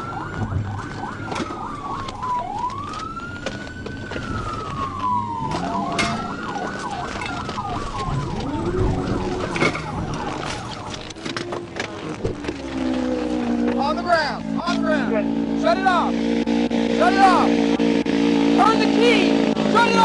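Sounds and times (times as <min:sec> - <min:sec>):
police siren wailing: 0:00.0 - 0:20.0.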